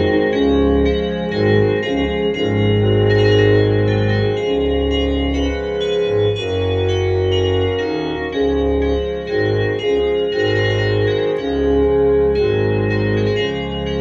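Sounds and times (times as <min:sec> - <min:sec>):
electronic organ playing a hymn: 0:00.0 - 0:14.0.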